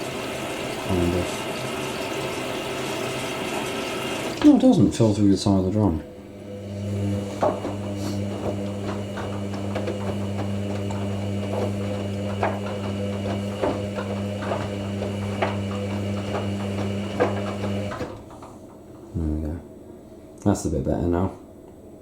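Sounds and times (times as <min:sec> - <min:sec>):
water running into drum: 0:00.0 - 0:18.6
steady mains hum: 0:00.0 - 0:22.0.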